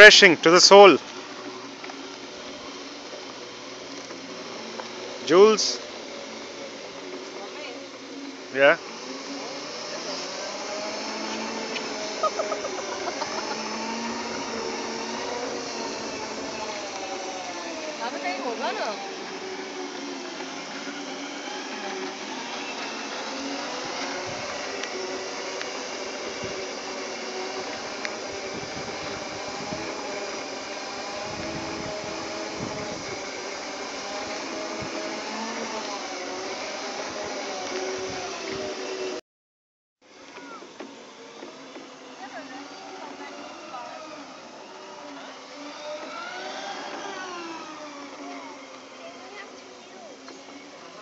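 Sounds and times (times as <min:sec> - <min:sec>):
electric motors whining: 0:00.0 - 0:39.2, 0:40.1 - 0:51.0.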